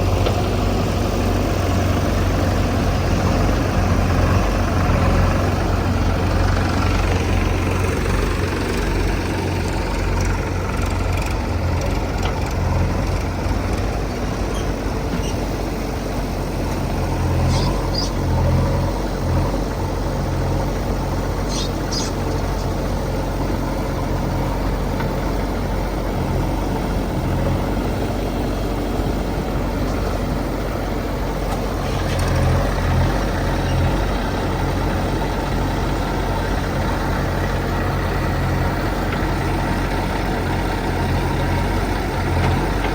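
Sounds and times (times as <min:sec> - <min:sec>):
backhoe diesel engine drone: 0:00.0 - 0:42.9.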